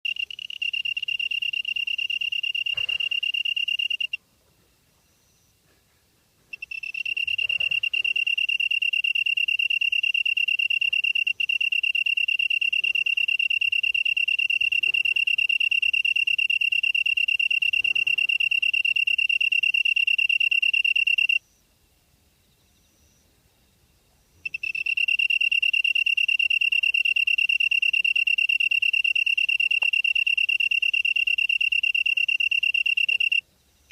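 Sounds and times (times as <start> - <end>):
insect high-pitched trill: 0.0 - 4.2, 6.5 - 21.5, 24.4 - 33.4.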